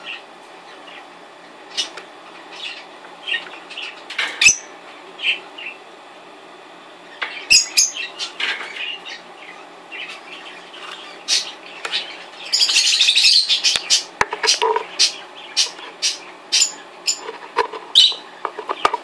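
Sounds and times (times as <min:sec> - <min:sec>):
lovebirds chirping: 0:00.0 - 0:05.9, 0:07.0 - 0:19.0.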